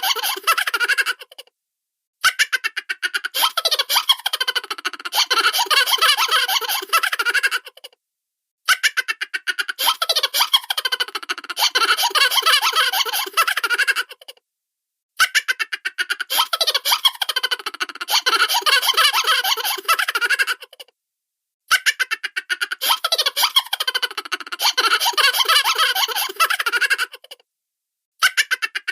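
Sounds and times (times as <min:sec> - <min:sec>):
cartoon high-pitched giggles: 0:00.0 - 0:01.5, 0:02.2 - 0:08.0, 0:08.7 - 0:14.4, 0:15.2 - 0:20.9, 0:21.7 - 0:27.4, 0:28.2 - 0:28.9.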